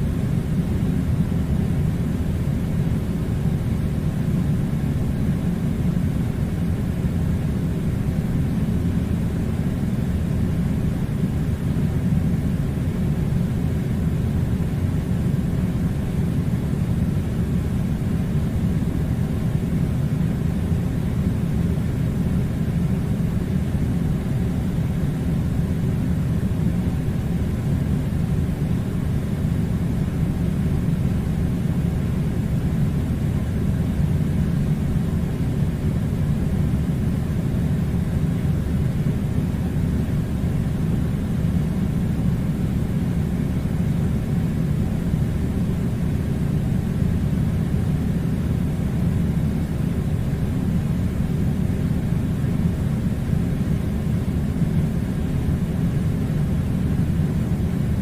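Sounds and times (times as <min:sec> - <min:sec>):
air conditioner running: 0:00.0 - 0:58.0.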